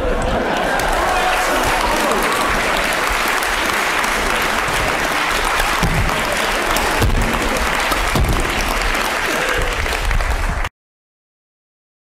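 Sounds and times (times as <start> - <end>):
large audience applauding: 0.0 - 10.7.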